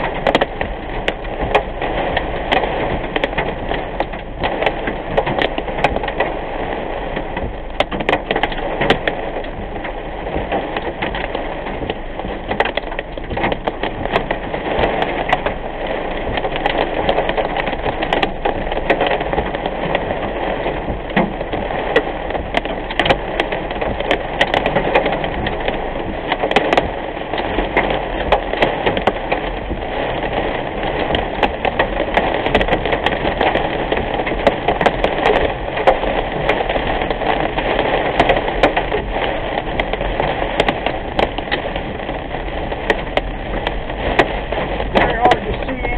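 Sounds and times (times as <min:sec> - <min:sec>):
heavy rain hitting car windshield: 0:00.0 - 0:45.9
tyre and road noise: 0:00.0 - 0:45.9.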